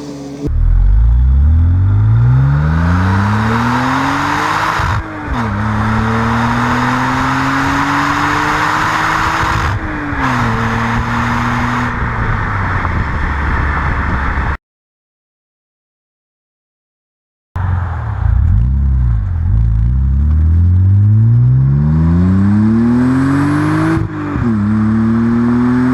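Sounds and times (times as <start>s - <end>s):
car engine accelerating: 0.0s - 14.6s, 17.6s - 25.9s
road and wind noise: 0.0s - 14.6s, 17.6s - 25.9s.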